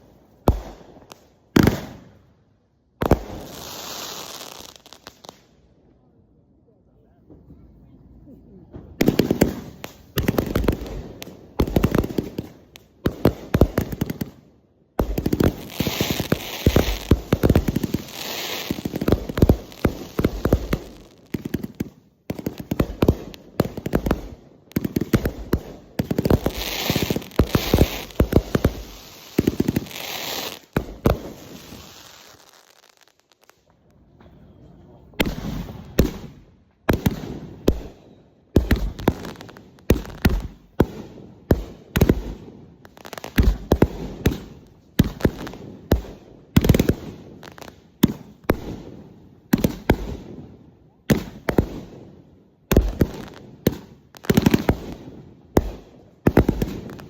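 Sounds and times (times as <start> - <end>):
fireworks banging: 0.0 - 2.1, 8.7 - 14.4, 15.0 - 42.4, 43.0 - 50.4, 52.7 - 57.0.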